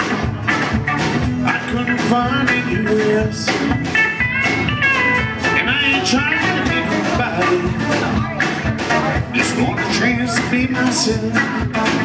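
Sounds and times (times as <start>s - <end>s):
electric guitar bending notes: 0.0s - 12.0s
live country band playing: 0.0s - 12.0s.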